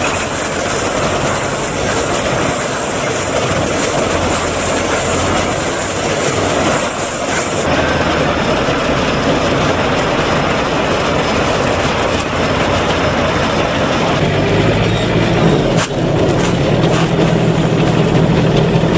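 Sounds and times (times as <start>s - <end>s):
baler mechanical clatter: 0.0s - 18.9s.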